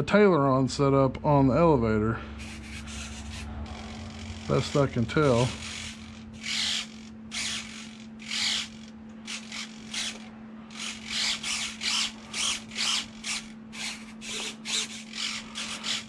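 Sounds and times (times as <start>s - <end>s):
steady low hum: 0.0s - 16.0s
servos whirring: 2.4s - 16.0s.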